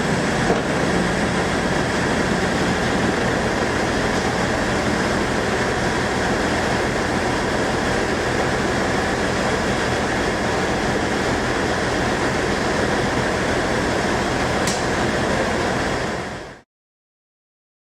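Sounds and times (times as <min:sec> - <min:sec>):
constant low hum: 0:00.0 - 0:15.8
train rumble and hiss: 0:00.0 - 0:16.6.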